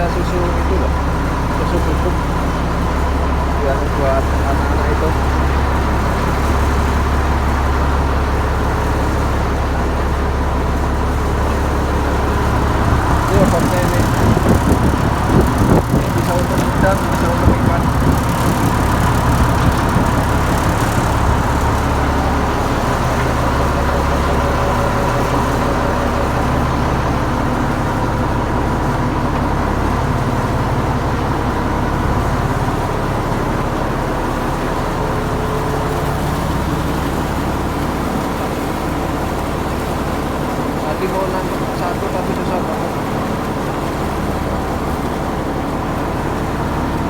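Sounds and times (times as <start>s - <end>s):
machine motor rumbling and whining: 0.0s - 47.0s.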